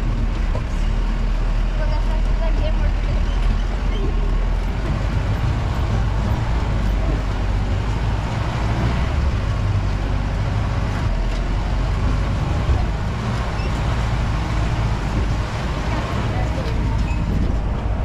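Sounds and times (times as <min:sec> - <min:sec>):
car engine running: 0:00.0 - 0:18.0
road noise on rough track: 0:00.0 - 0:18.0.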